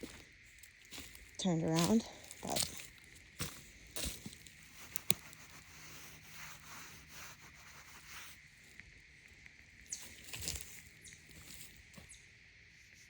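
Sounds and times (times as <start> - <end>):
footsteps on woodland trail: 0.0 - 12.3.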